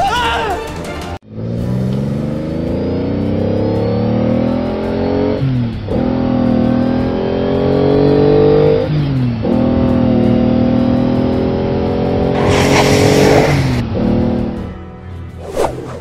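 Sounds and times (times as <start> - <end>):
car engine accelerating: 0.8 - 14.8.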